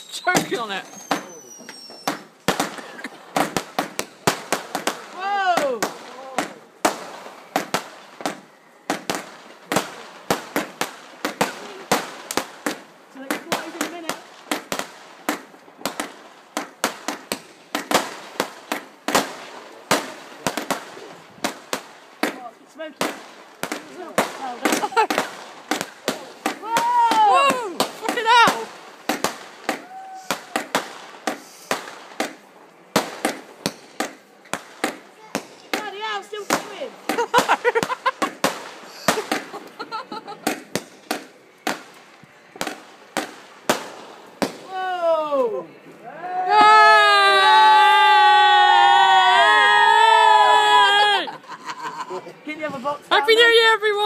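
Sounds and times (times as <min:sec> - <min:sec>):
firework bangs: 0:00.0 - 0:45.0
firework crackling: 0:00.0 - 0:54.0.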